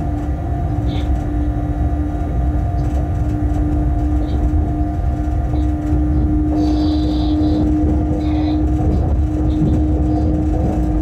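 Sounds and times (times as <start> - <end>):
locomotive hum: 0.0 - 11.0
wheels rumbling on rail: 0.0 - 11.0.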